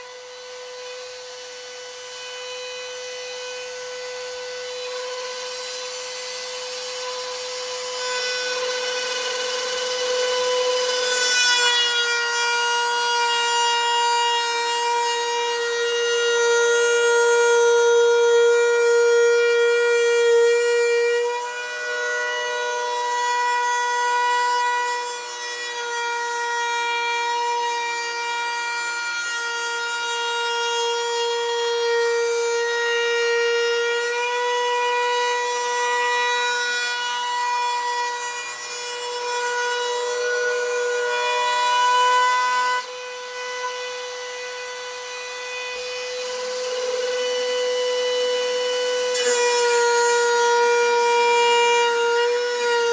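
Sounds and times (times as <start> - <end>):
router high whine: 0.0 - 52.9.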